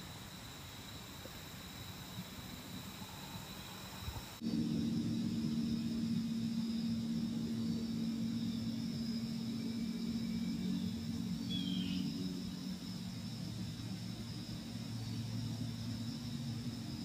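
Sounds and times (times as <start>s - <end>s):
low engine-like hum: 1.2s - 17.0s.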